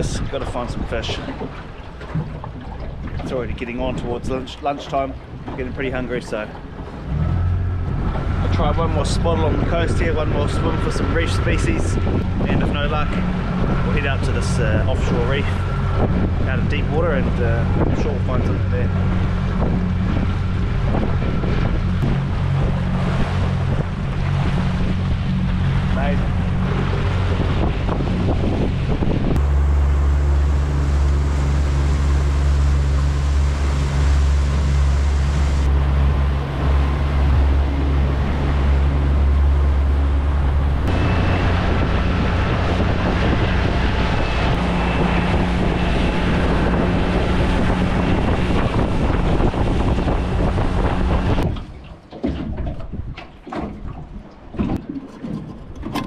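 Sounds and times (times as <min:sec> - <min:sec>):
outboard motor droning: 0:00.0 - 0:56.0
water rushing past hull: 0:00.0 - 0:56.0
wind buffeting microphone: 0:00.0 - 0:56.0.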